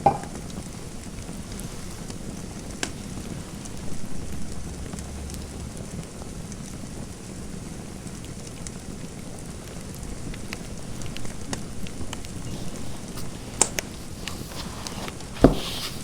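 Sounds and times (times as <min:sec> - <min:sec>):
fire crackling: 0:00.3 - 0:16.0.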